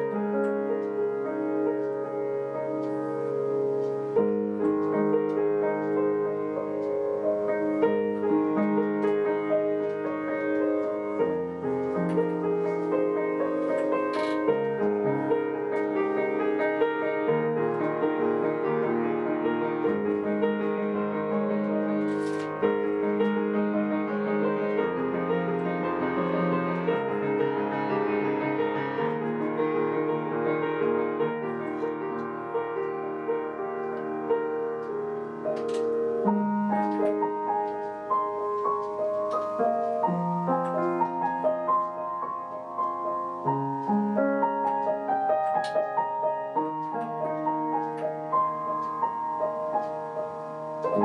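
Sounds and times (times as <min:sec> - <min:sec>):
piano playing chords: 0:00.0 - 0:51.0.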